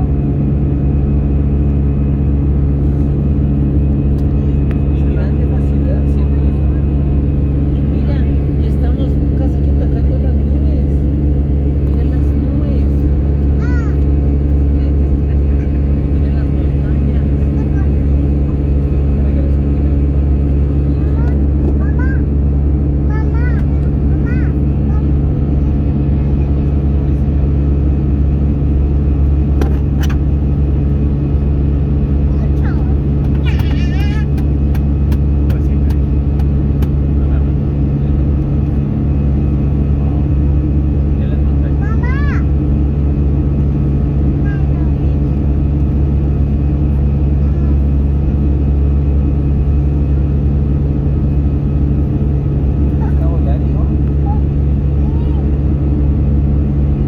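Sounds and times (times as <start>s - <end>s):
airliner engines droning: 0.0s - 57.0s.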